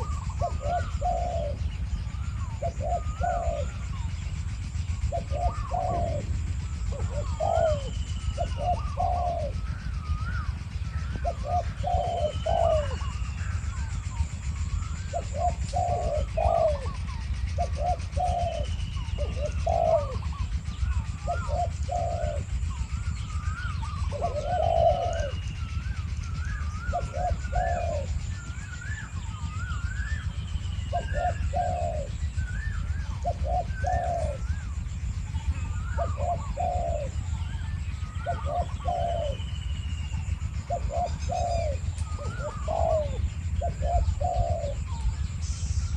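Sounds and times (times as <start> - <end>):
birds chirping: 0.0 - 45.9
doves cooing: 0.0 - 45.9
steady low rumble: 0.0 - 45.9.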